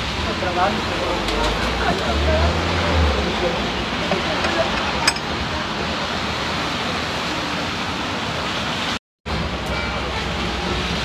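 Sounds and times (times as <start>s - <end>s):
rain hiss: 0.0s - 11.0s.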